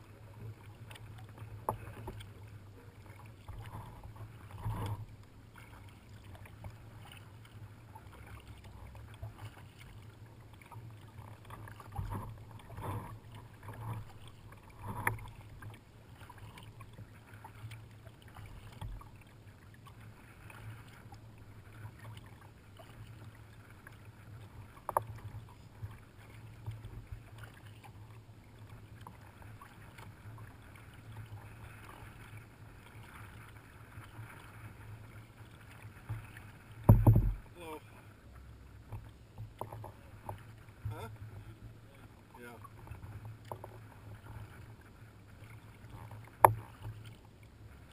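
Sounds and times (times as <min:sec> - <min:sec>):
paddles splashing in water: 0:00.0 - 0:47.9.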